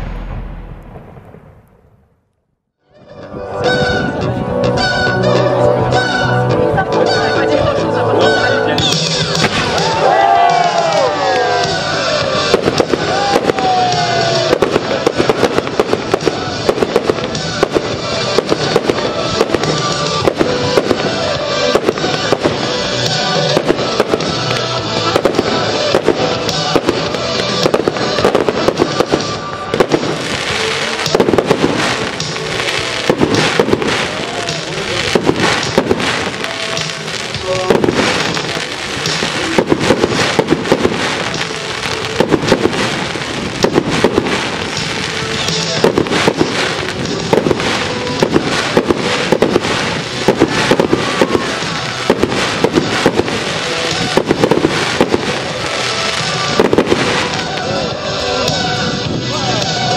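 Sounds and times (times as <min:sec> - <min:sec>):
fireworks bursting with crackle: 0:00.0 - 0:06.2, 0:07.0 - 0:59.9
music soundtrack: 0:02.8 - 0:59.9.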